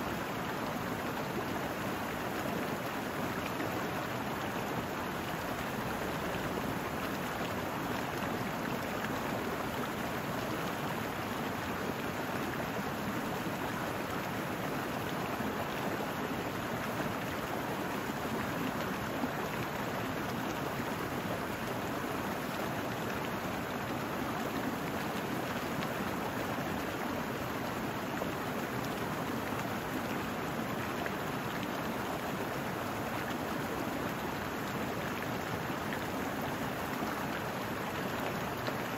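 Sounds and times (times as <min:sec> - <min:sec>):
brook flowing over rocks: 0:00.0 - 0:38.9.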